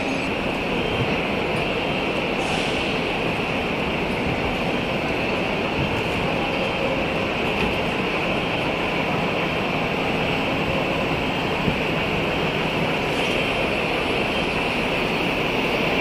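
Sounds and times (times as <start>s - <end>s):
busy bus terminal background noise: 0.0s - 16.0s.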